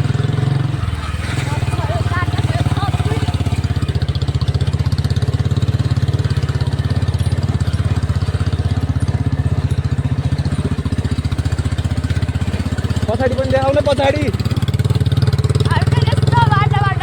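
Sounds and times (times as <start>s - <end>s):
motorcycle engine thumping: 0.0s - 17.0s.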